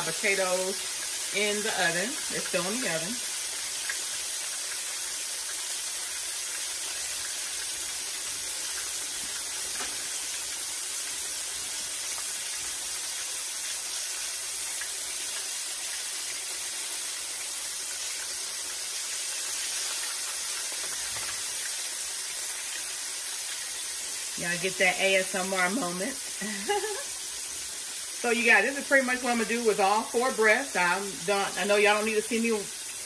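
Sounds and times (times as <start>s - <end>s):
chicken sizzling in a pan: 0.0s - 33.0s.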